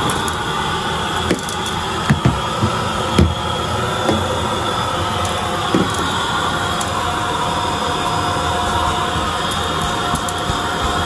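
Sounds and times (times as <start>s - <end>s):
vacuum cleaner running on carpet: 0.0s - 11.0s.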